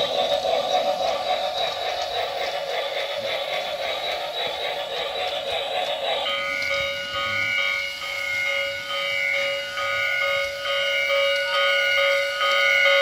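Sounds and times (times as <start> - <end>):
electronic chuffing hiss: 0.0 - 11.3.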